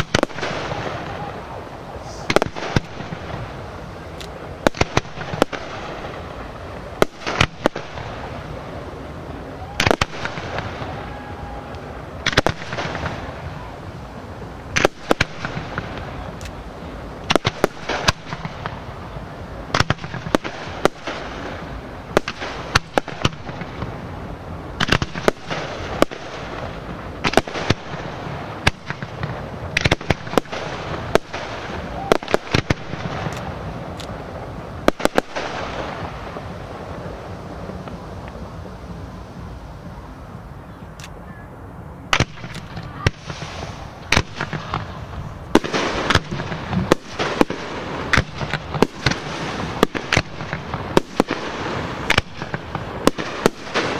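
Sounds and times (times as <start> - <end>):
fireworks bursting with echo: 0.0 - 53.9.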